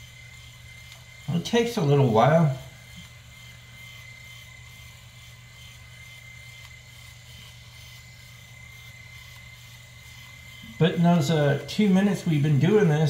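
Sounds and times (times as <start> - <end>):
electric shaver humming: 0.0 - 13.0.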